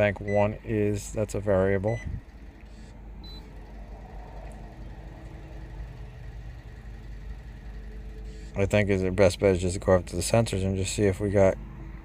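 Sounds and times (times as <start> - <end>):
car engine idling rough: 0.0 - 12.0.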